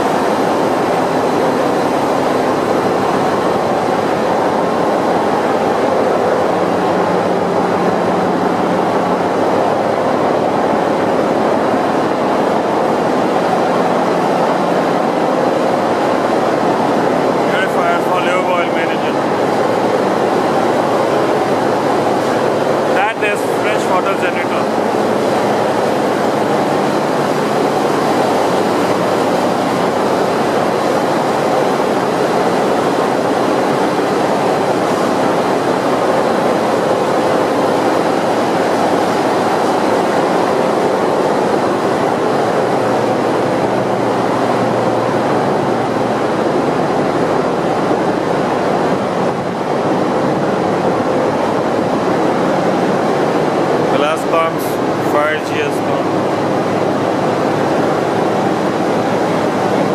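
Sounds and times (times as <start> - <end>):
engine room machinery din: 0.0 - 59.9.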